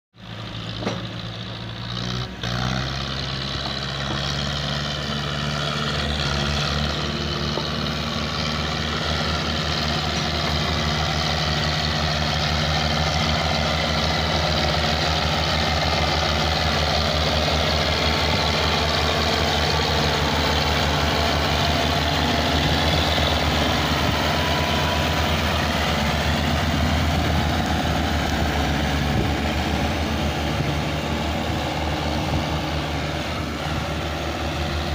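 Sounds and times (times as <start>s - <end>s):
tractor diesel engines droning: 0.2s - 34.9s.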